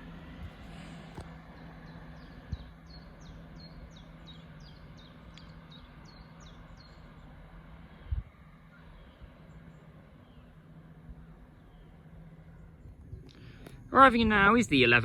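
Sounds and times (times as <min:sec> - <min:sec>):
faint background rumble: 0:00.0 - 0:15.0
low steady hum: 0:00.0 - 0:15.0
small bird singing: 0:01.4 - 0:13.7.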